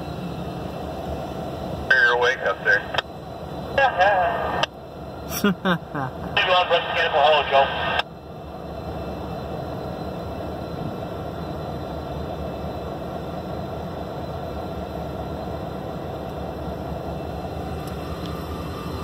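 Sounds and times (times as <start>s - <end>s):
locomotive engines rumbling: 0.0s - 19.0s.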